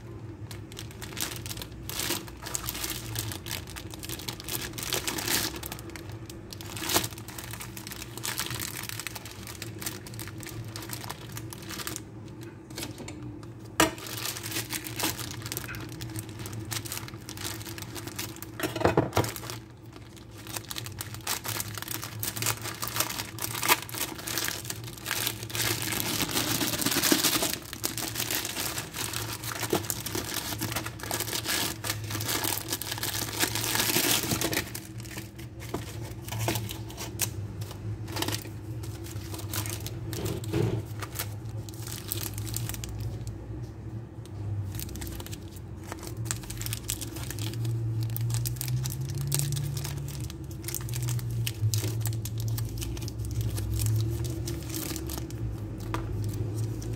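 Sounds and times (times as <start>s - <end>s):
foil wrappers crinkling: 0.0s - 43.6s, 44.4s - 56.9s
plastic snack bag crinkling: 0.0s - 43.7s, 44.3s - 56.9s.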